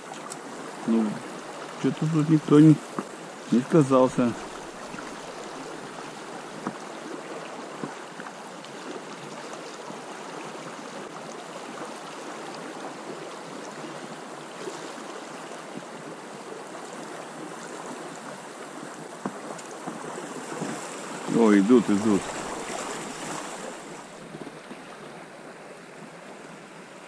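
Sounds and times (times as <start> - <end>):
river current rushing: 0.0 - 27.0.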